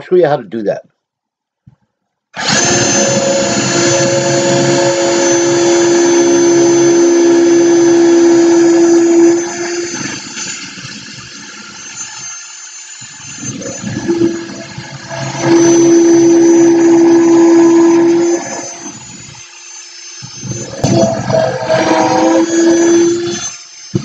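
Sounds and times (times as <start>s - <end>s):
cordless drill boring into wood: 2.4s - 24.0s.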